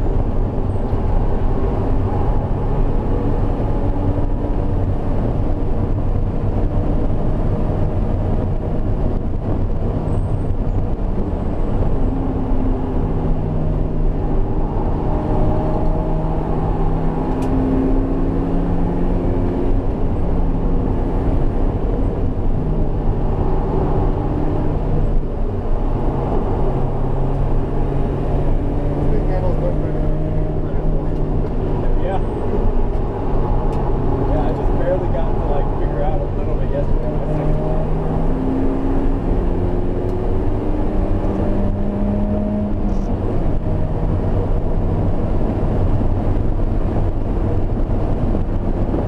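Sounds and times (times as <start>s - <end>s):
car engine accelerating: 0.0s - 49.0s
road noise inside car: 0.0s - 49.0s.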